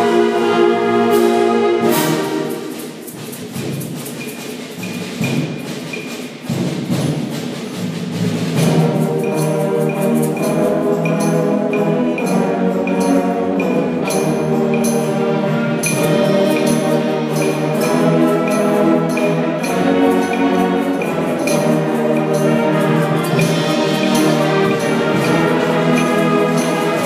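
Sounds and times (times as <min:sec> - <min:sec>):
orchestra playing sustained chords: 0:00.0 - 0:03.3, 0:08.6 - 0:27.0
light percussion strokes: 0:00.0 - 0:27.0.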